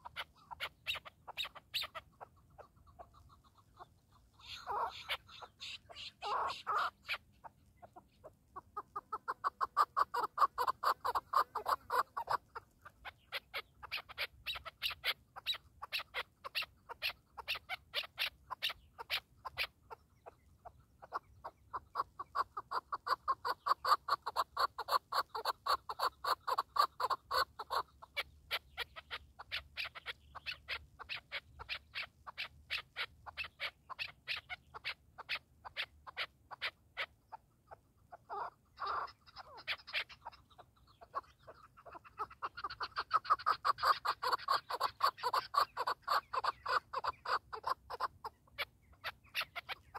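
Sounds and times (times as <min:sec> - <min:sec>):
partridge calling: 0:00.0 - 0:49.9.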